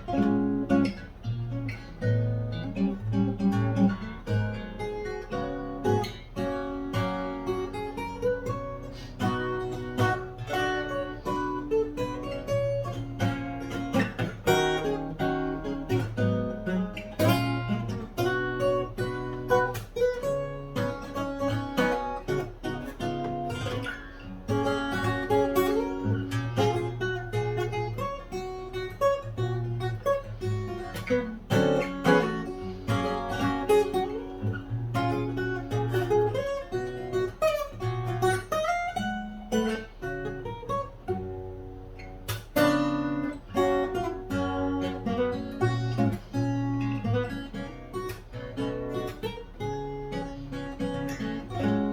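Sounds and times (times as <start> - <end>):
fingerstyle acoustic guitar: 0.0 - 51.9.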